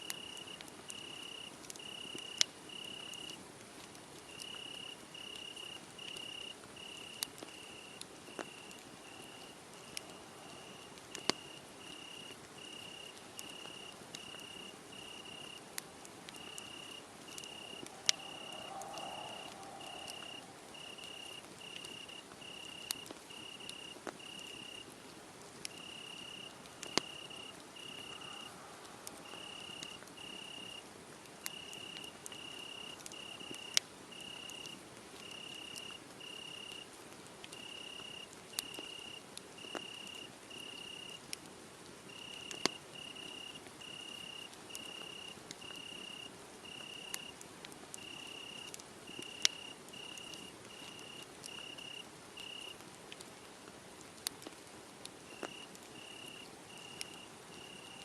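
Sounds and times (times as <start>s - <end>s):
cricket chirping: 0.0s - 3.4s, 4.3s - 15.7s, 16.3s - 24.9s, 25.7s - 28.6s, 29.2s - 30.8s, 31.4s - 36.8s, 37.6s - 41.2s, 42.1s - 47.4s, 48.0s - 52.8s, 55.3s - 58.0s
wood fire crackling: 0.0s - 58.0s
fire popping: 0.1s - 45.9s, 46.6s - 53.3s, 54.2s - 58.0s.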